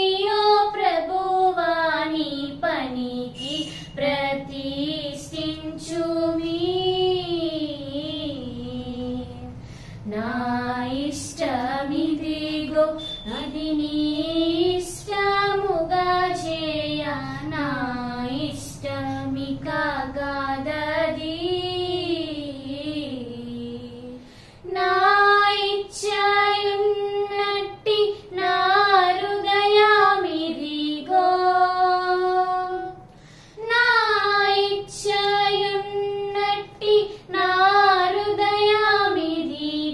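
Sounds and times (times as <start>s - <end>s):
girls singing: 0.0s - 39.9s.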